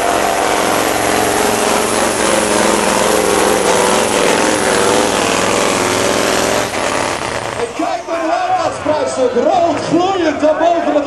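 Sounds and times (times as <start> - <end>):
diesel truck engine droning: 0.0 - 10.8.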